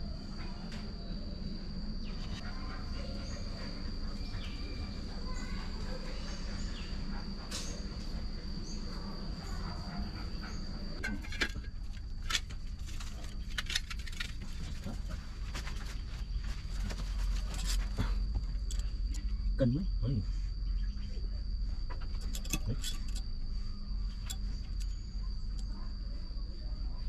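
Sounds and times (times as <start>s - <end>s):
high insect trill: 0.0s - 27.0s.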